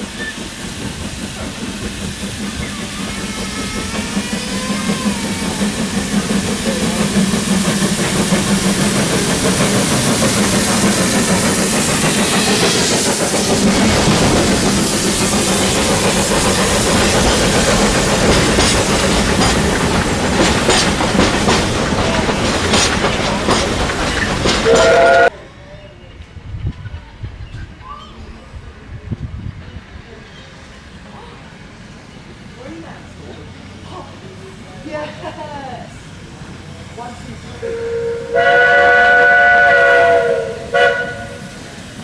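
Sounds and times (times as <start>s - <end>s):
steam locomotive hissing: 0.0s - 42.0s.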